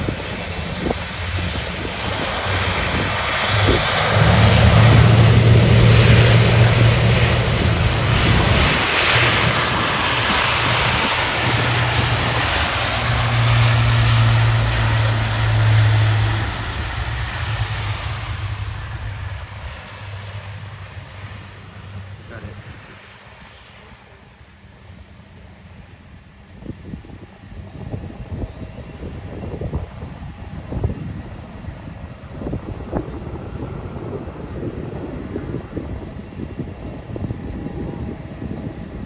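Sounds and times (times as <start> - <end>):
deep propeller hum: 0.0 - 39.0
turboprop aircraft engines roaring: 0.0 - 39.0.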